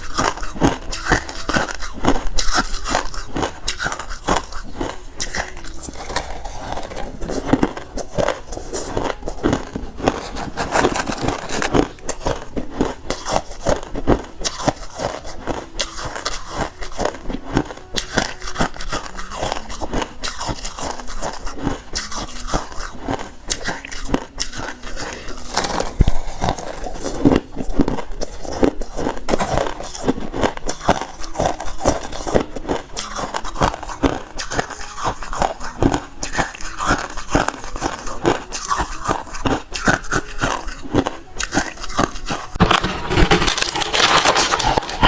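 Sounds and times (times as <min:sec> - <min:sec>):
person chewing ice crunching: 0:00.0 - 0:45.0.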